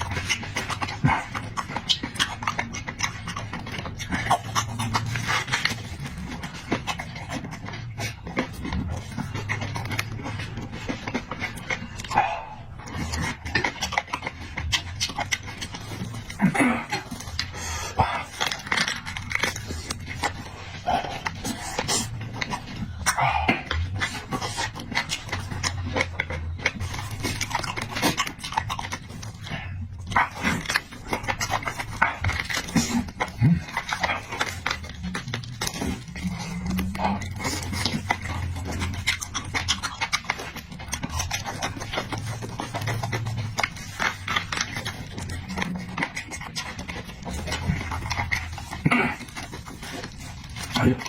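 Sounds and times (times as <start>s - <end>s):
chewing and mouth smacking: 0.0s - 51.0s.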